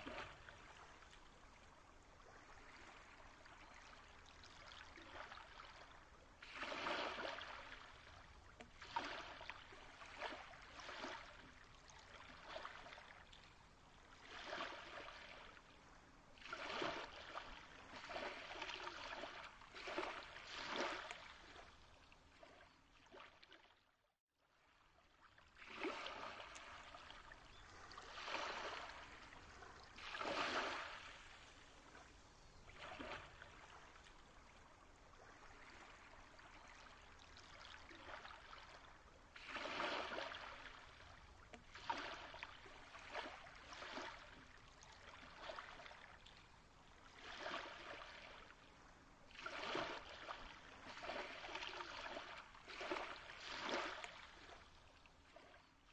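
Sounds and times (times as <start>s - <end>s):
soft flowing water: 0.0s - 55.9s.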